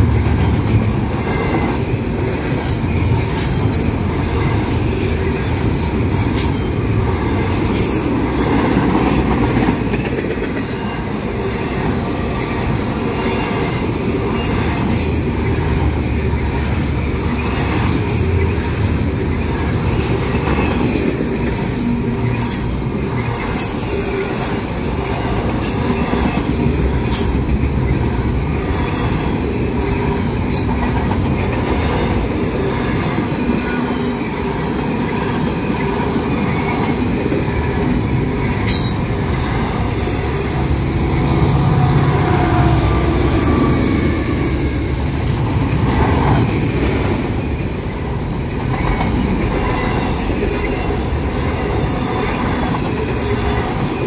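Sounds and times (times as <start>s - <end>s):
clicks and knocks from train wheels: 0.0s - 41.2s, 44.6s - 54.0s
train wheels rumbling on rails: 0.0s - 54.0s.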